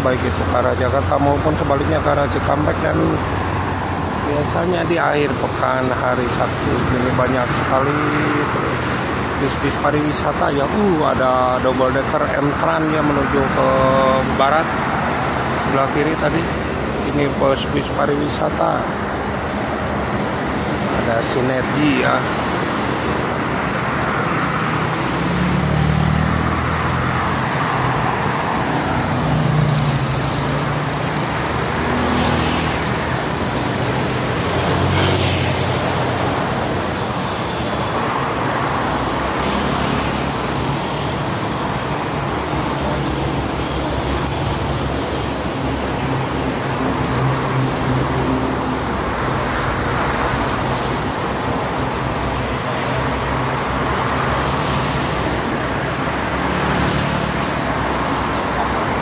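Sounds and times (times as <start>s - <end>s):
highway traffic passing: 0.0s - 59.0s.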